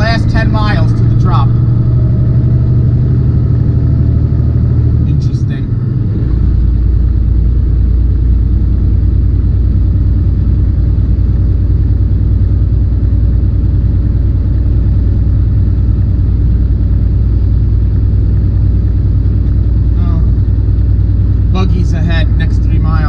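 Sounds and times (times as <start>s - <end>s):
diesel truck engine rumble: 0.0s - 23.0s
road noise: 0.0s - 23.0s.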